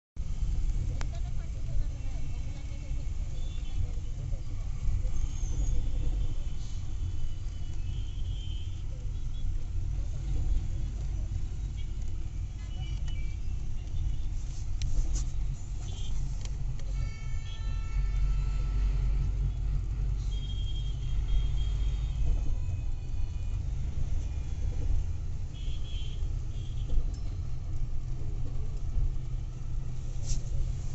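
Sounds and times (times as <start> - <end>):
vehicle rumble from inside: 0.2 - 30.9.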